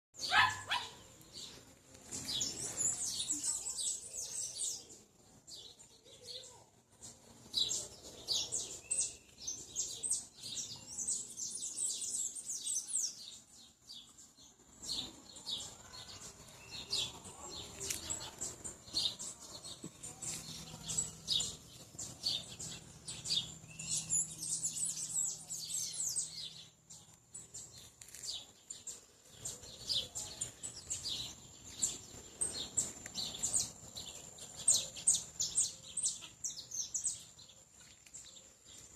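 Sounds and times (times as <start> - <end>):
small birds chirping: 0.2 - 38.9.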